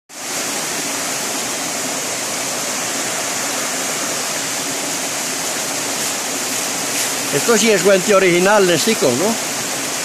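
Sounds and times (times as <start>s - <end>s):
small waterfall splashing: 0.1s - 10.0s.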